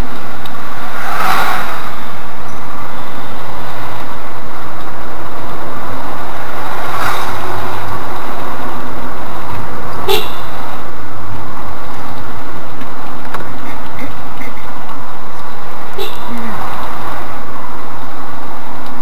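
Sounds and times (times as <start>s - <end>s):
car road and engine noise: 0.0s - 19.0s
oncoming car passing: 0.0s - 19.0s.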